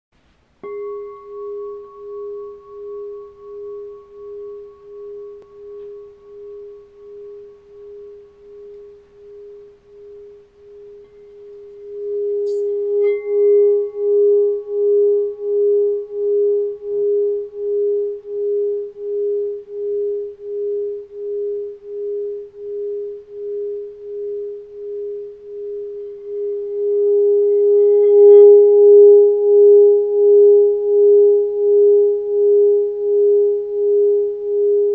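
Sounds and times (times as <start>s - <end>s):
singing bowl ringing: 0.6s - 34.9s.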